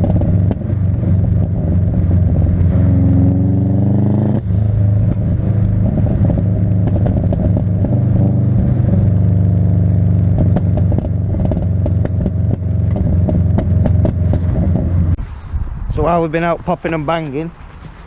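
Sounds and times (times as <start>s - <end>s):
car engine held at steady revs: 0.0s - 15.2s
exhaust pops and crackles: 0.0s - 15.2s.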